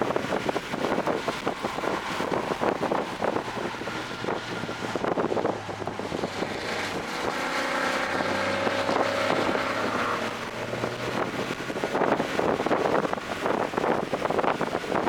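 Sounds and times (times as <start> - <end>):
car engine pulling hard: 0.0 - 15.0
wind noise: 0.0 - 15.0.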